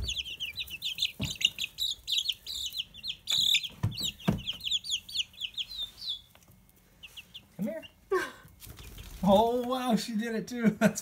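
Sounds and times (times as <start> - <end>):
chicks peeping: 0.0 - 10.2.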